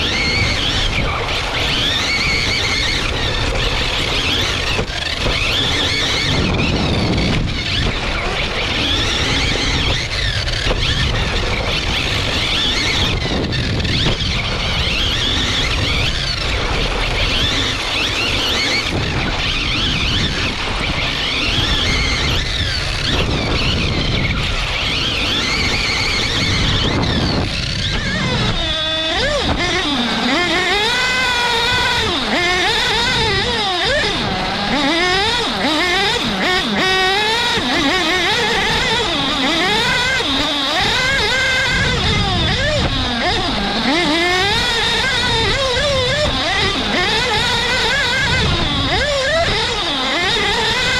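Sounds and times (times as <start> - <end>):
rc car motor whining: 0.0 - 50.9
tyre and wind noise: 0.0 - 50.9.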